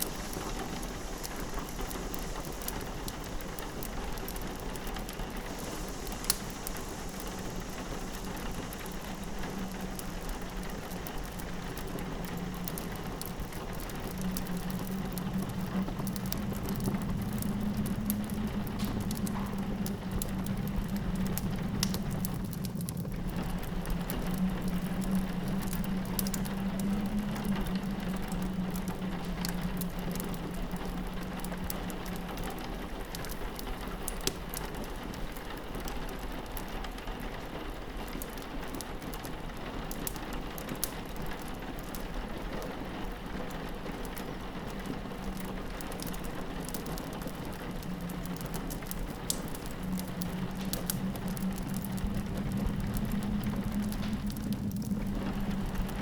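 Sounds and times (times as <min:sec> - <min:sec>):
low steady drone: 0:00.0 - 0:35.3, 0:41.1 - 0:56.0
rain pattering on a window: 0:00.0 - 0:56.0
wood fire crackling: 0:00.0 - 0:56.0.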